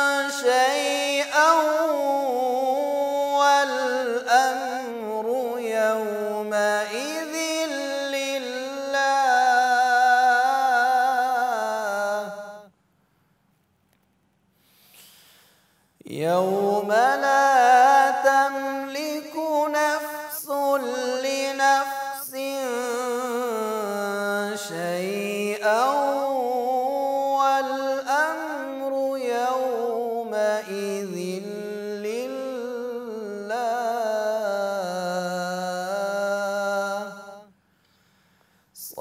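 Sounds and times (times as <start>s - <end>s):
man reciting melodically: 0.0s - 12.7s, 16.0s - 37.6s, 38.8s - 39.0s.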